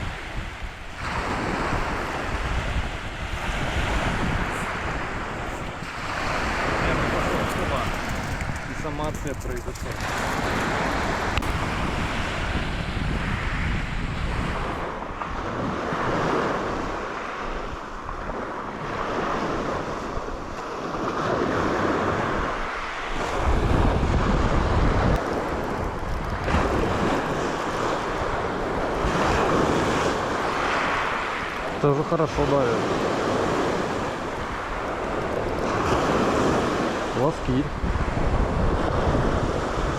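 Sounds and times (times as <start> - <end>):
surf washing onto shore: 0.0 - 39.9
wind buffeting microphone: 0.0 - 39.9.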